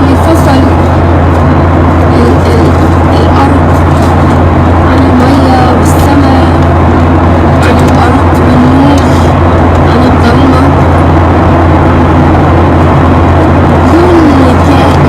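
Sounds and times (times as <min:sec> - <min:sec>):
airliner cabin drone: 0:00.0 - 0:15.0.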